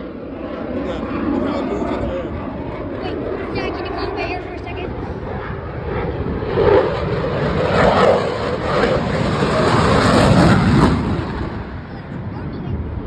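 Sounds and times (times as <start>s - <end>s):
fighter jet engine rushing: 0.0s - 13.0s.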